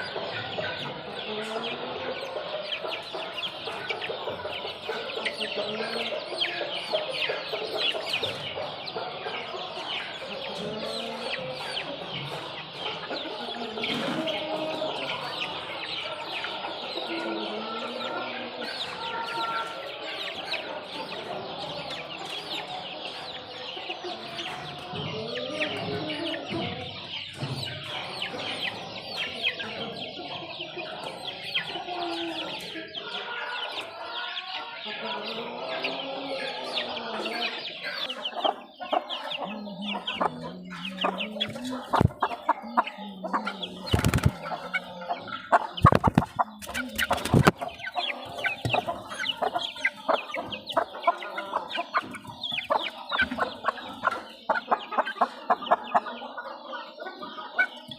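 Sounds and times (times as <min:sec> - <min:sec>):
chicks peeping: 0:00.0 - 0:57.9
clucking calls: 0:00.0 - 0:57.9.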